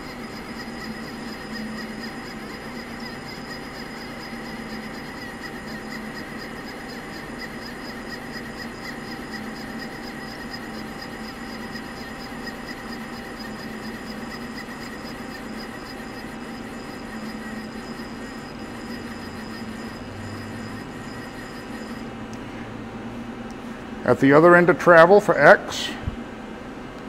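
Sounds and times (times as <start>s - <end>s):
machine hum with servo whine: 0.0s - 24.0s.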